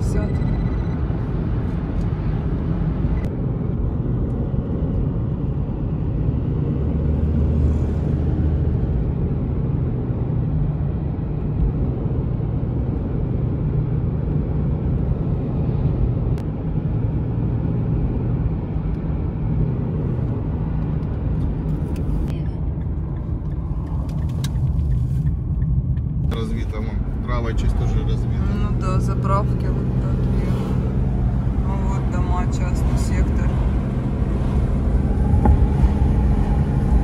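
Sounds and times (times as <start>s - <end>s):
car cabin road and engine rumble: 0.0s - 37.0s.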